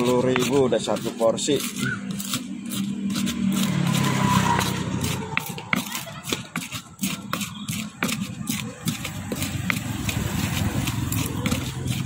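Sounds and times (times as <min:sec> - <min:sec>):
pestle knocking and scraping mortar: 0:00.0 - 0:12.0.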